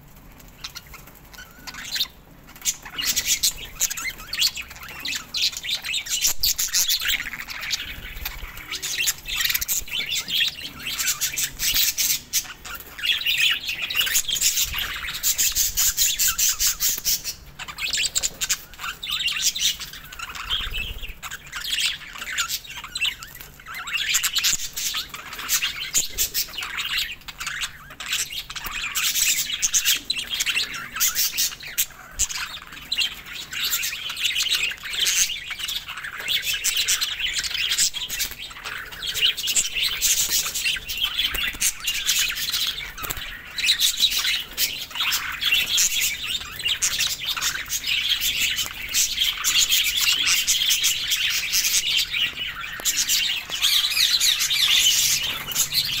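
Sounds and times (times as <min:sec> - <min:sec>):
budgerigars chattering: 0:00.4 - 0:56.0.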